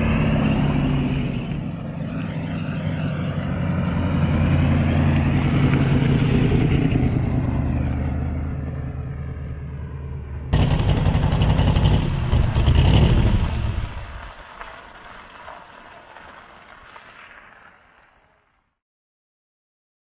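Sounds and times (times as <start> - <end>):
car engine exhaust rumble: 0.0 - 17.6.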